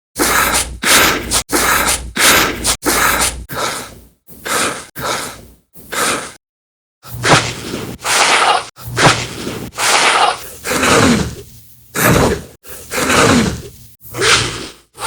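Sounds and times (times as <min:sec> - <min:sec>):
breathy gasps and exhalations: 0:00.2 - 0:06.4, 0:07.0 - 0:15.0.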